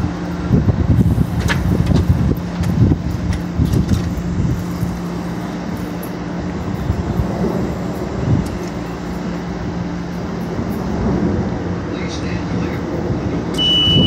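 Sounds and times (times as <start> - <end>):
low rumbles: 0.0 - 14.0
train equipment low hum: 0.0 - 14.0.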